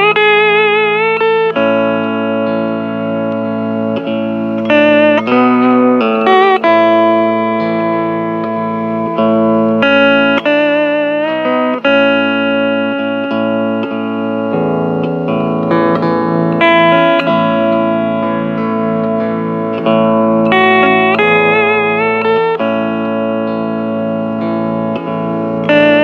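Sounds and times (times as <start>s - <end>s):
steel guitar slow melody: 0.0s - 26.0s
sustained accompaniment chords: 0.0s - 26.0s.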